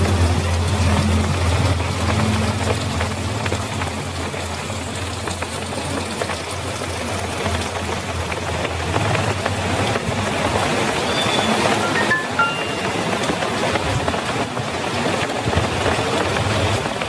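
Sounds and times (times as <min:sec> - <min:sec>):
heavy rain falling: 0:00.0 - 0:17.0
vehicle engine humming: 0:00.0 - 0:17.0.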